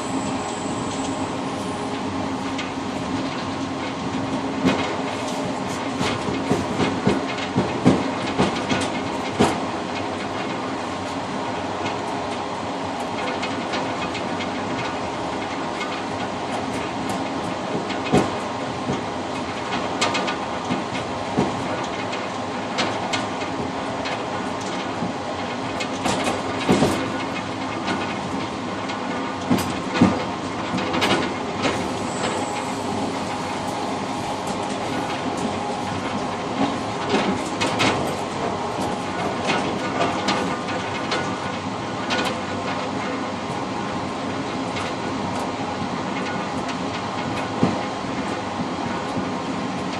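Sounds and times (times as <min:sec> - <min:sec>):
train wheels rumbling: 0:00.0 - 0:49.9
wheels clacking on rail joints: 0:02.4 - 0:12.4, 0:13.0 - 0:49.9.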